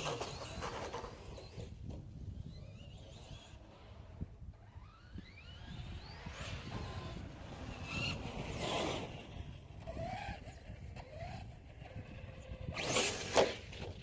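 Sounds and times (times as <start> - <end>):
rc car motor whine: 0.0 - 14.0.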